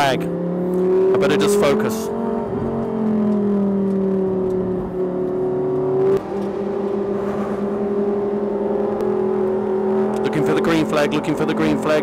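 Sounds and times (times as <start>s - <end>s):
race car engine at part throttle: 0.0s - 12.0s.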